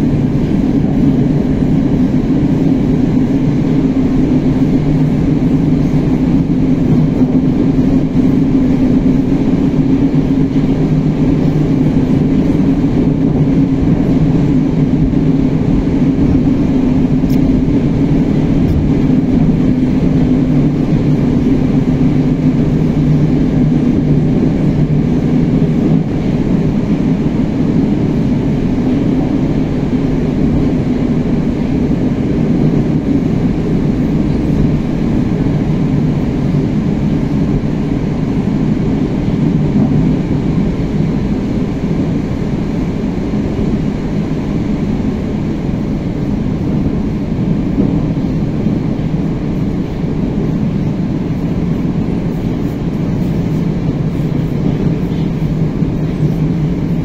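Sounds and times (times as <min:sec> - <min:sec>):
low drone: 0:00.0 - 0:57.0
train wheels rumbling on rail: 0:00.0 - 0:57.0.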